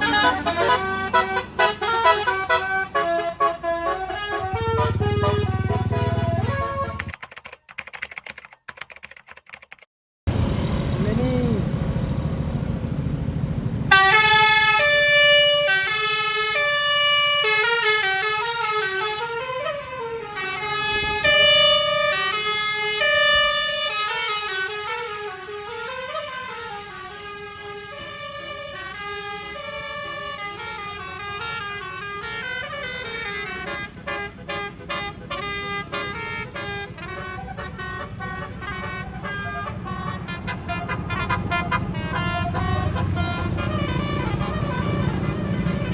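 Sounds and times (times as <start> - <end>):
bus horn playing a melody: 0.0 - 7.1, 13.9 - 45.9
bus rumble: 0.0 - 7.2, 10.3 - 45.9.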